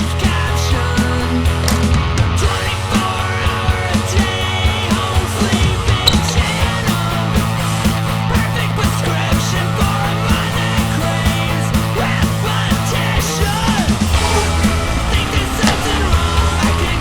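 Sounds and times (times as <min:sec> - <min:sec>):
rock music with bass and drums: 0:00.0 - 0:17.0.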